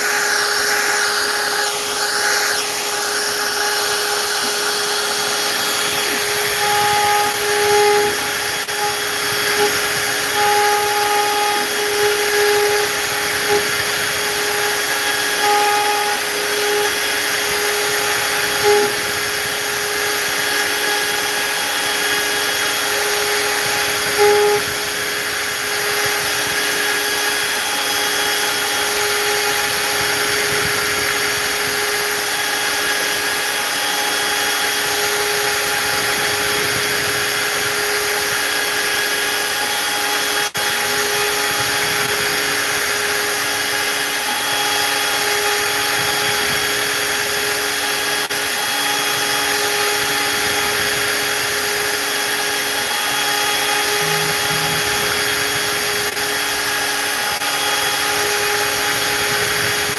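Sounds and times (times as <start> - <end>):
hiss of cutting wood: 0.0 - 59.9
router spindle whining: 0.0 - 59.9.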